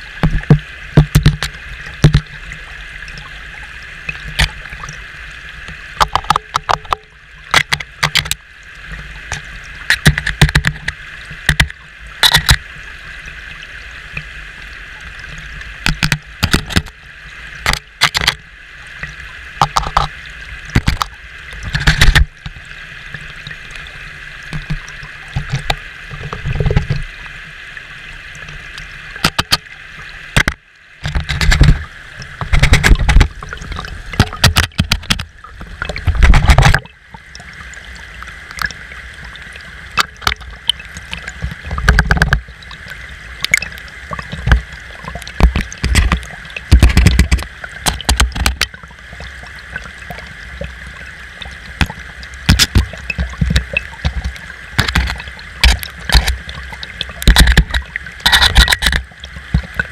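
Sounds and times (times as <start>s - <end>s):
stream rushing over rocks: 0.0s - 8.4s, 9.0s - 59.9s.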